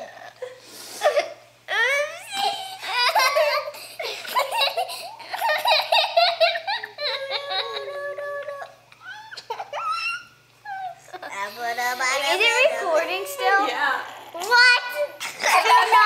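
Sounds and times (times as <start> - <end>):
children laughing and giggling: 1.0 - 16.0.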